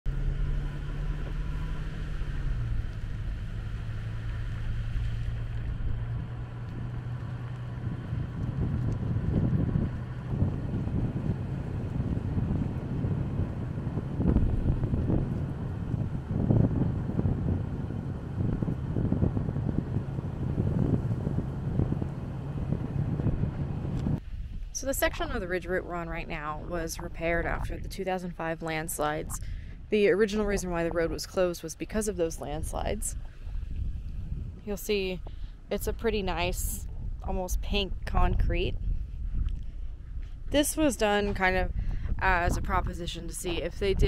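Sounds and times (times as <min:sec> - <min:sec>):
engine humming: 0:00.0 - 0:44.0
low rumble: 0:00.0 - 0:44.0
wind buffeting microphone: 0:00.1 - 0:44.0.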